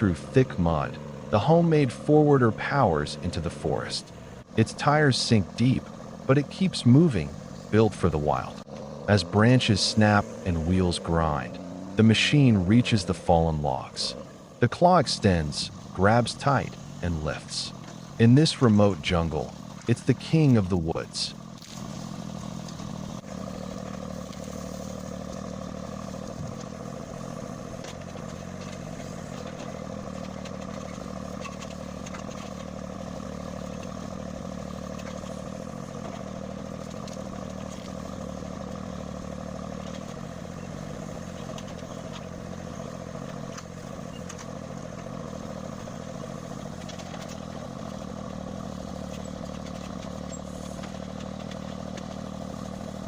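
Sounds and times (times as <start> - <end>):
machine engine running: 0.0 - 53.0.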